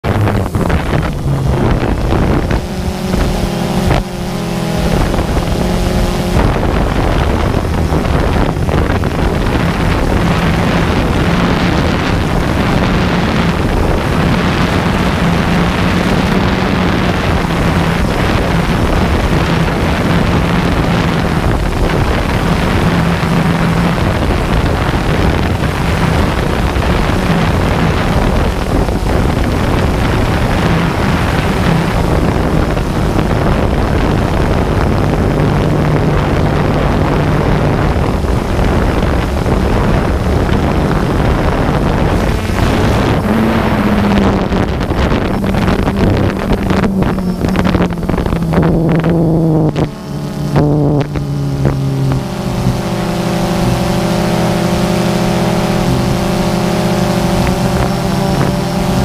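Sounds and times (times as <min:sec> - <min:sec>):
drone propellers buzzing: 0:00.0 - 0:59.0
wind noise on microphone: 0:00.0 - 0:59.0.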